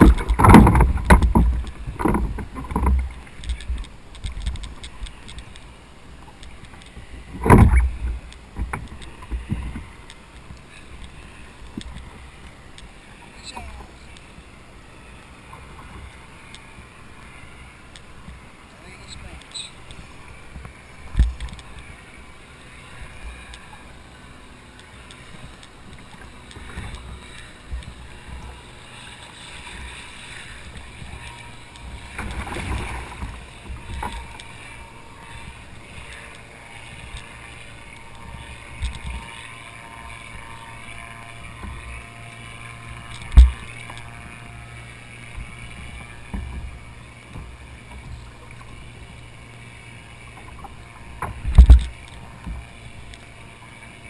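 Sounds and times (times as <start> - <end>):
water slapping against kayak hull: 0.0 - 14.5, 24.6 - 53.9.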